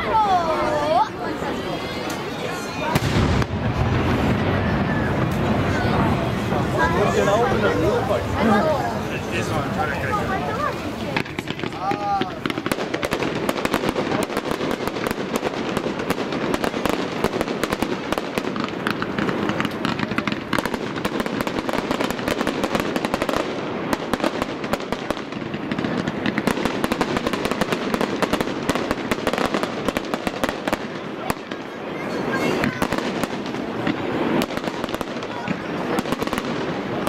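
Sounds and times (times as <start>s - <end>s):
fireworks bangs and crackle: 0.0s - 37.0s.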